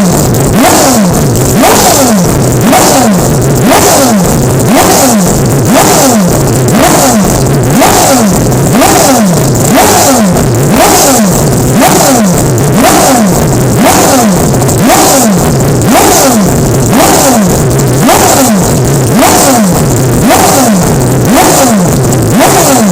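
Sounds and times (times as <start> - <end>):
rotary race car engine revving: 0.0 - 22.9.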